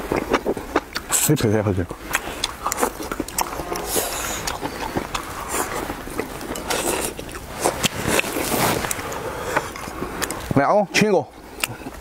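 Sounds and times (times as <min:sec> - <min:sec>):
people chewing: 0:00.0 - 0:10.6, 0:11.4 - 0:12.0.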